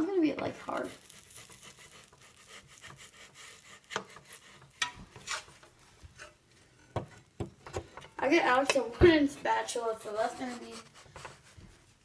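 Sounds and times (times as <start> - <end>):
spatula scraping a griddle: 0.0 - 7.3, 8.5 - 12.0
faint steady hiss: 0.0 - 12.0.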